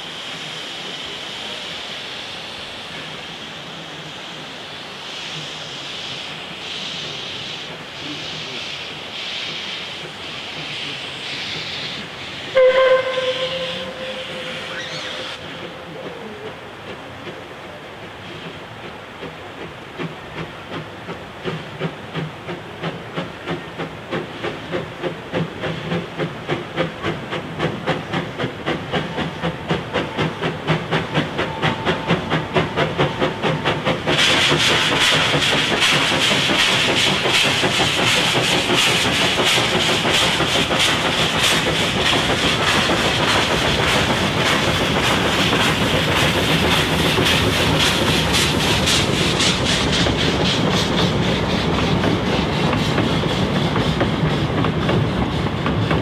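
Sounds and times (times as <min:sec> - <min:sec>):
loud steam hiss: 0:00.0 - 0:56.0
steam locomotive chuffing: 0:00.0 - 0:56.0.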